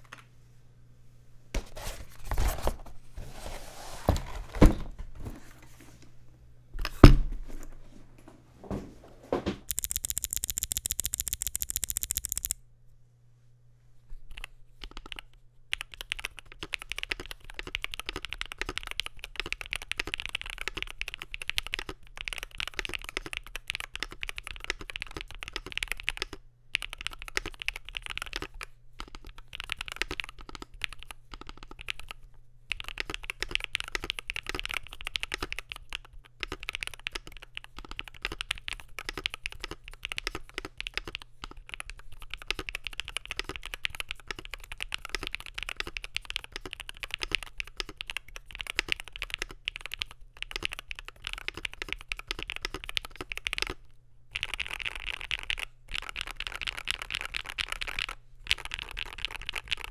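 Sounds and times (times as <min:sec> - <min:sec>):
fast keyboard typing: 0:09.7 - 0:12.6, 0:14.3 - 0:59.9.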